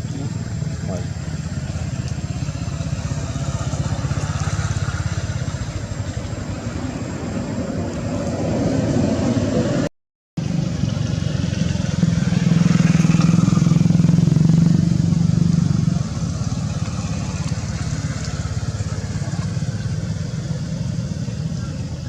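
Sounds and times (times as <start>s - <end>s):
motorcycle engine running: 0.0s - 9.8s, 10.4s - 22.0s.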